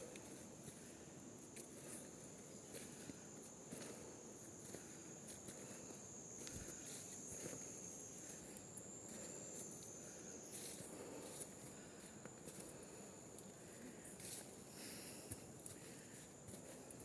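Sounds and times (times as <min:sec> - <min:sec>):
insects calling steadily: 0:00.0 - 0:17.0
soft footsteps on trail: 0:00.0 - 0:17.0.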